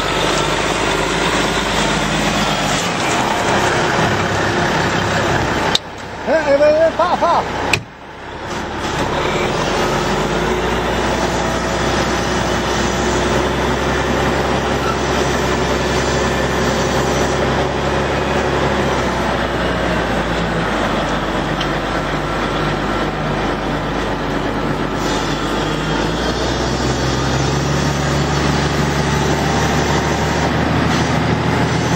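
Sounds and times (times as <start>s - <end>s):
heavy vehicle engine running: 0.0s - 31.9s.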